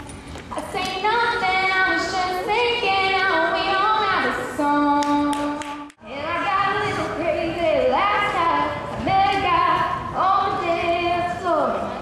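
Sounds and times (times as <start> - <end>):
girl singing into microphone: 0.5 - 11.7.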